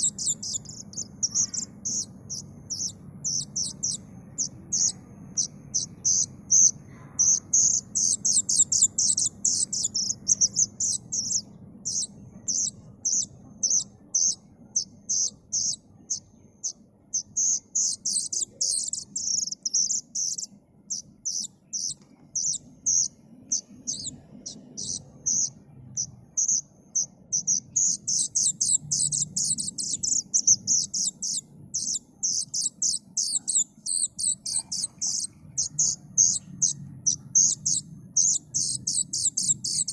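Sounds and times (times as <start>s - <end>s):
cuckoo chick chirping: 0.0s - 39.9s.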